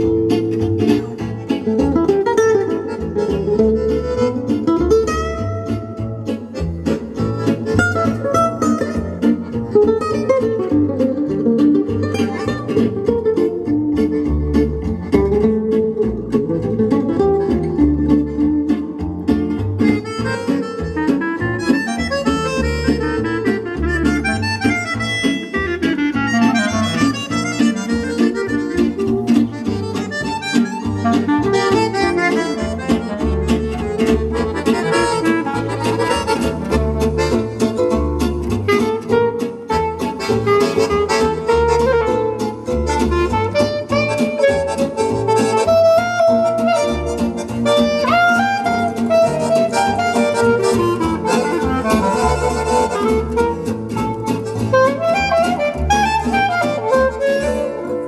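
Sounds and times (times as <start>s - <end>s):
accordion musette music: 0.0s - 58.0s.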